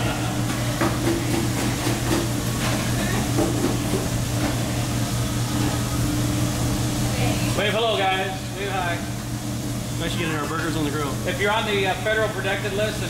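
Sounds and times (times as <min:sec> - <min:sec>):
kitchen exhaust fans humming: 0:00.0 - 0:13.0.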